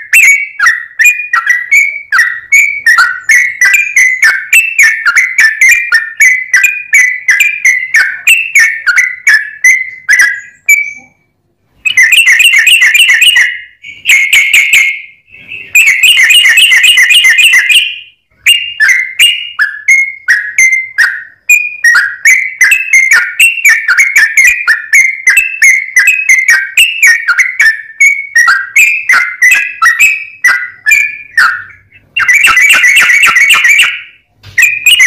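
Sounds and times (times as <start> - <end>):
bird fast chattering: 0.0 - 11.2, 11.8 - 35.0
bird whistled notes: 0.0 - 11.2, 11.8 - 35.0.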